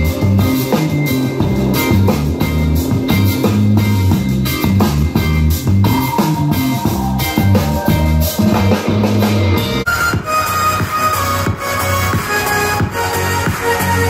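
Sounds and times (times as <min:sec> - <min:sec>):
rock music through speakers: 0:00.0 - 0:14.0.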